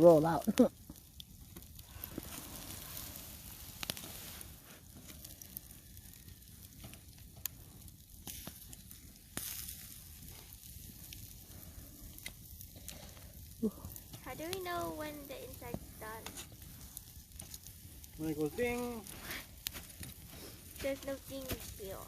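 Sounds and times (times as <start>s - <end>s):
chicken sizzling on a grate: 0.0s - 22.0s
fire popping: 0.0s - 22.0s.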